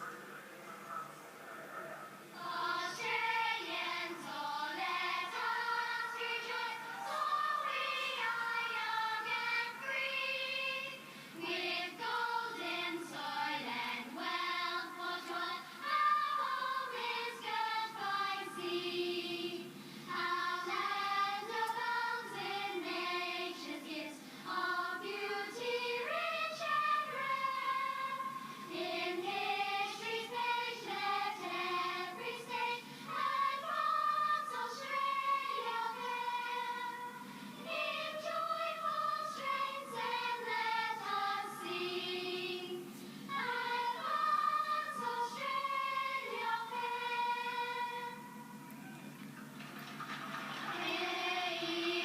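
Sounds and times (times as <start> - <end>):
girls choir singing: 2.3 - 48.6, 50.4 - 52.0.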